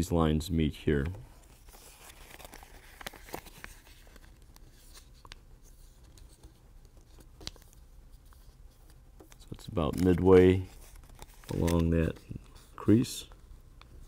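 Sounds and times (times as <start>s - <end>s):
paper rustling and creasing: 1.0s - 14.0s.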